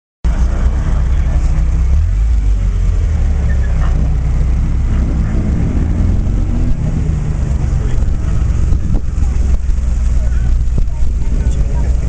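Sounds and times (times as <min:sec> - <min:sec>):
sports car engines rumbling: 0:00.2 - 0:12.0.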